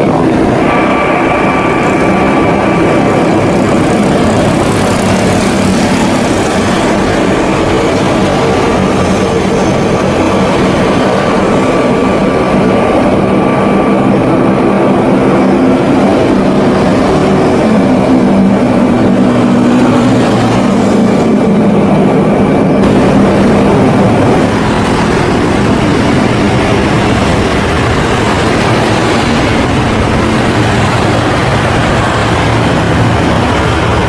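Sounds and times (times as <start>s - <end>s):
turboprop engines running loud: 0.0s - 34.0s.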